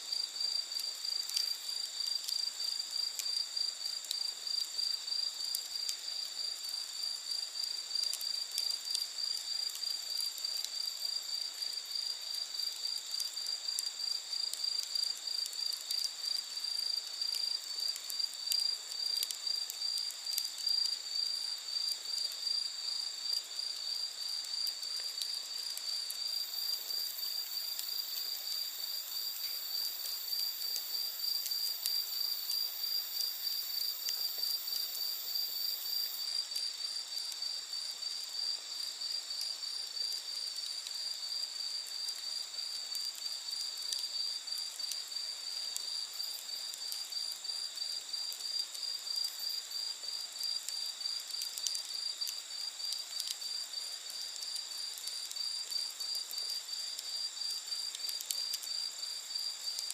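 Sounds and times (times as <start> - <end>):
crickets trilling: 0.0 - 59.9
campfire crackling: 0.1 - 59.9.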